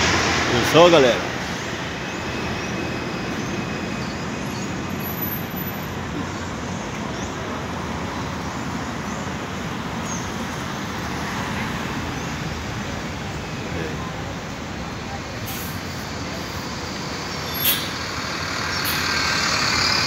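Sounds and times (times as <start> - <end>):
cars driving past: 0.0 - 20.0.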